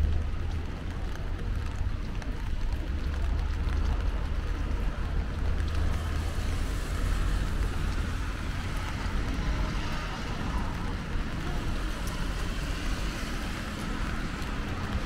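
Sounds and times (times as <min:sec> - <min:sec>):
constant low rumble: 0:00.0 - 0:15.0
steady rain: 0:00.0 - 0:15.0.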